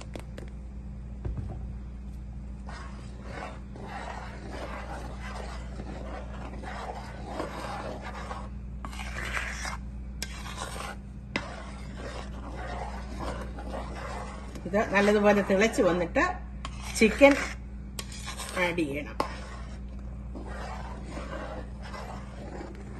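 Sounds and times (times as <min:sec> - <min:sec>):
steady low hum: 0:00.0 - 0:22.9
spatula scraping a pan: 0:02.6 - 0:22.9.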